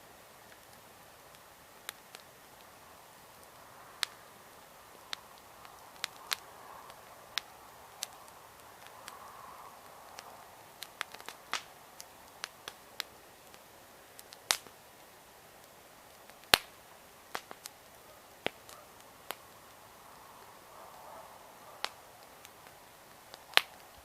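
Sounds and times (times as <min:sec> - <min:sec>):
campfire crackling and popping: 0:00.0 - 0:24.0
faint steady hiss: 0:00.0 - 0:24.0.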